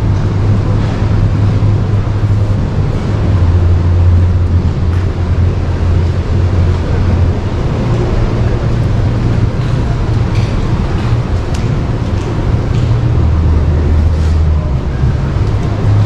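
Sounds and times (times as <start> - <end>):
background noise wash: 0.0 - 16.0
loud low hum: 0.0 - 16.0.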